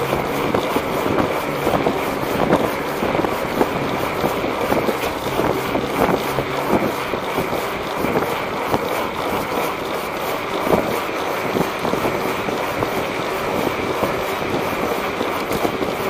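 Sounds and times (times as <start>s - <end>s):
tyres rolling on road: 0.0s - 16.0s
wind rush over microphone: 0.0s - 16.0s.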